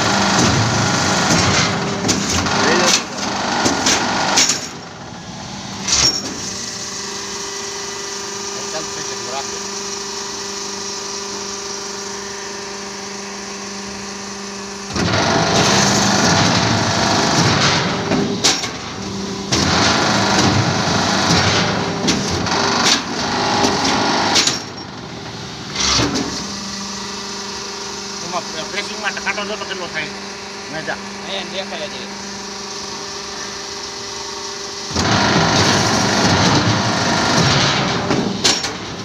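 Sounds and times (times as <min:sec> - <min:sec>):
loud mechanical clatter: 0:00.0 - 0:12.8, 0:14.6 - 0:39.0
pump motor humming: 0:00.0 - 0:39.0.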